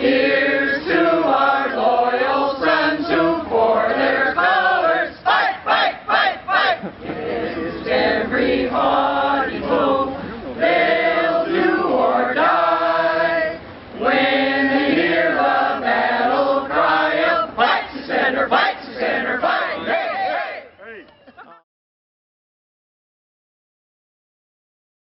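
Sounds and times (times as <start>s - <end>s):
group singing: 0.0s - 20.6s.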